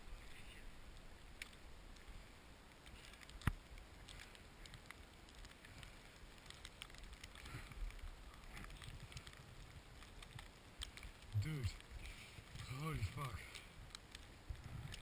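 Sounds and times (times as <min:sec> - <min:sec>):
small clicks: 0:00.9 - 0:02.1, 0:02.7 - 0:15.0.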